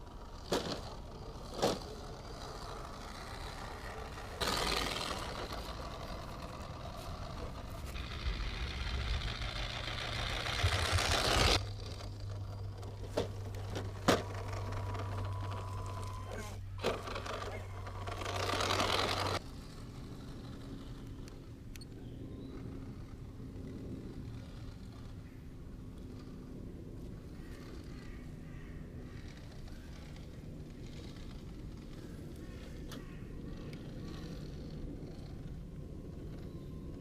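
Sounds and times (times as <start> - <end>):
toy truck motor whirring: 0.0 - 28.2, 29.0 - 37.0.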